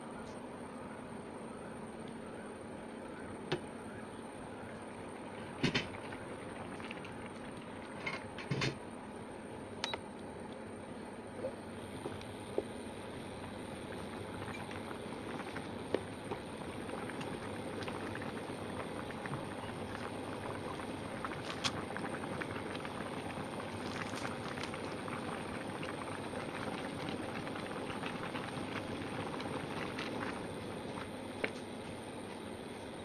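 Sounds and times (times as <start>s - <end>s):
curry bubbling at a boil: 3.9s - 8.6s, 11.0s - 33.0s.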